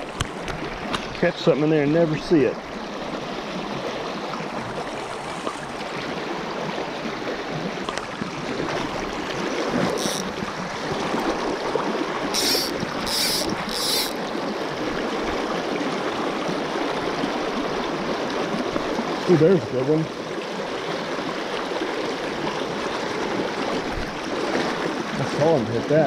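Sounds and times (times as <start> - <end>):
stream rushing over gravel: 0.0 - 26.0.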